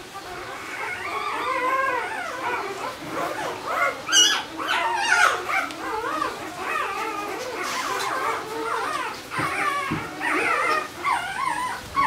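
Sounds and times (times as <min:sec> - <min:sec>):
puppy crying with squeals: 0:00.1 - 0:12.0
puppy yelp: 0:00.2 - 0:12.0.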